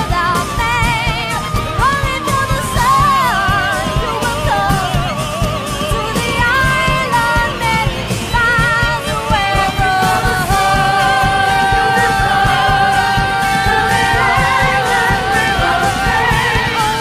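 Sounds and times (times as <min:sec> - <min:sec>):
pop band playing: 0:00.0 - 0:17.0
woman singing: 0:00.0 - 0:17.0.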